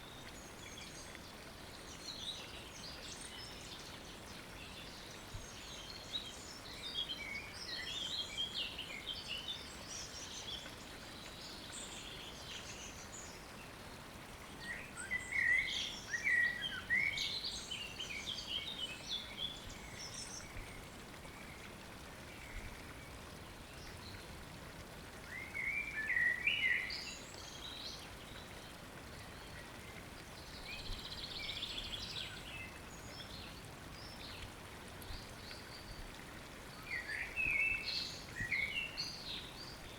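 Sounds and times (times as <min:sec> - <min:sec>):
songbirds singing: 0:00.0 - 0:24.5, 0:25.2 - 0:39.9.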